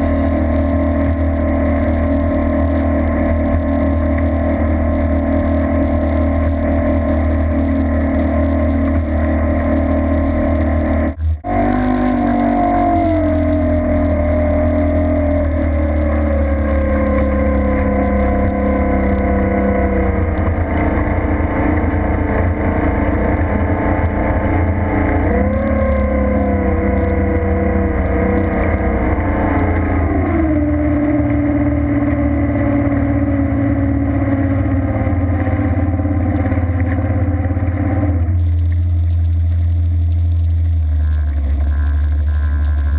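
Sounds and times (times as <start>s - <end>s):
boat engine running: 0.0s - 42.9s
water noise: 0.0s - 42.9s.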